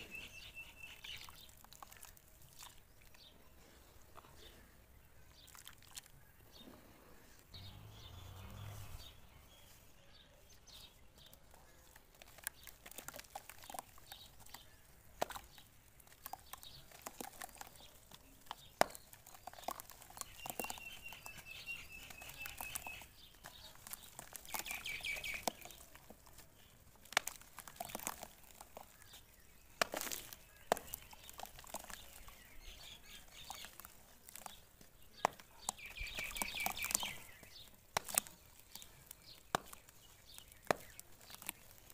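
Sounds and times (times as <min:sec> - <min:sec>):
water splashes and drips: 0:00.0 - 0:03.3, 0:05.3 - 0:06.2, 0:11.9 - 0:41.9
bird chirping: 0:00.0 - 0:26.8, 0:27.8 - 0:41.9
dry dirt crumbling: 0:00.0 - 0:41.9.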